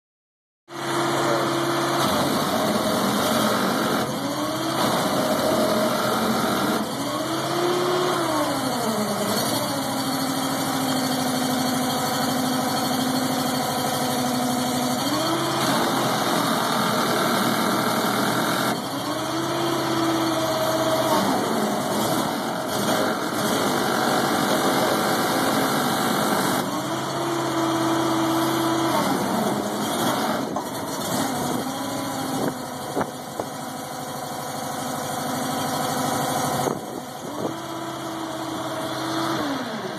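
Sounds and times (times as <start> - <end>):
hydraulic power unit running: 0.7 - 39.9.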